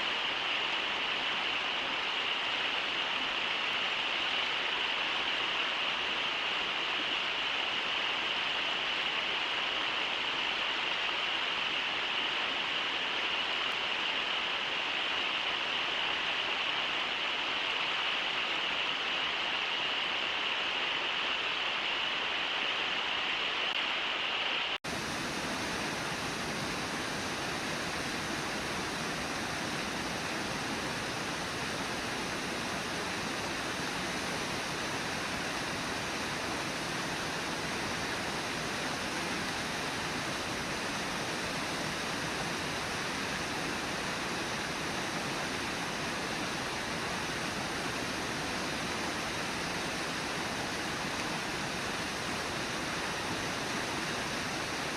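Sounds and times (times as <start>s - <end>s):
river water rushing over rapids: 0.0s - 54.9s.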